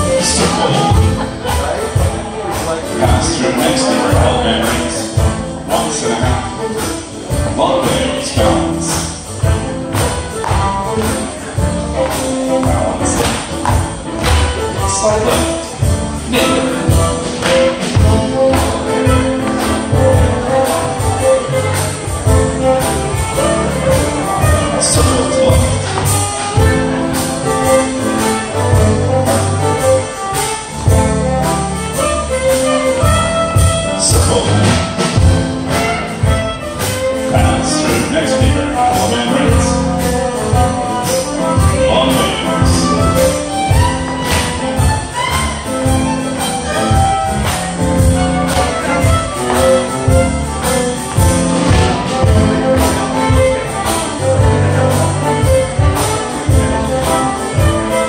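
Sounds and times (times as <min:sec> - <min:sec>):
fiddle playing: 0:00.0 - 0:58.0
keyboard playing: 0:00.0 - 0:58.0
percussion steady beat: 0:00.0 - 0:58.0.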